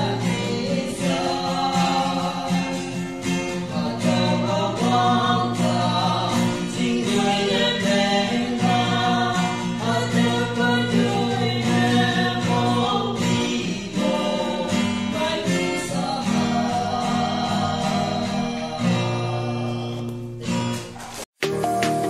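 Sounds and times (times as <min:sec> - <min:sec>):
man singing: 0:00.0 - 0:20.1
acoustic guitar strumming: 0:00.0 - 0:22.0
music: 0:00.0 - 0:22.0.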